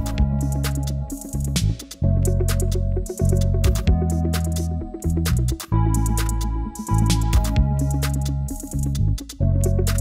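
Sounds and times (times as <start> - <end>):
deep sustained bass notes: 0.0 - 10.0.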